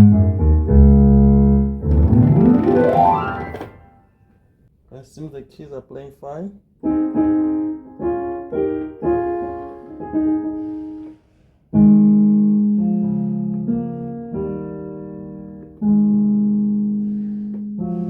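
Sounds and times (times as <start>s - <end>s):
keyboard piano notes: 0.0s - 4.1s, 6.8s - 11.1s, 11.8s - 18.0s.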